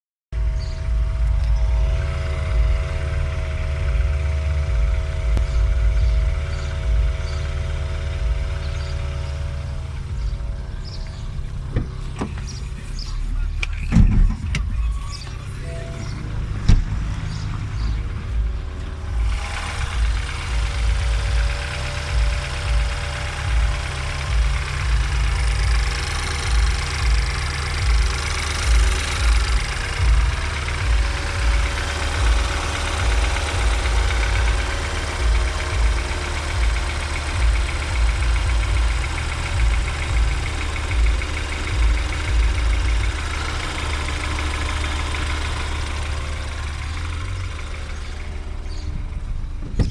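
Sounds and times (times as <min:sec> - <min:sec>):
car engine running: 0:00.3 - 0:49.9
engine buzzing: 0:00.4 - 0:49.9.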